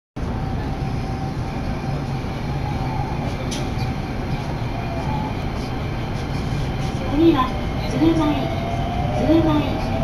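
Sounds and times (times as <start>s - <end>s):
subway train rumbling: 0.2s - 10.0s.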